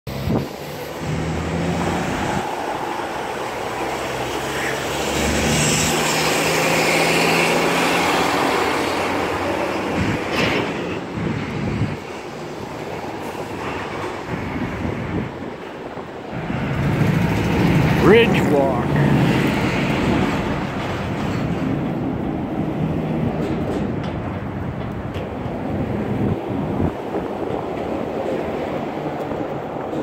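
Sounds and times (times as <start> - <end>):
traffic crossing steel bridge: 0.1 - 30.0.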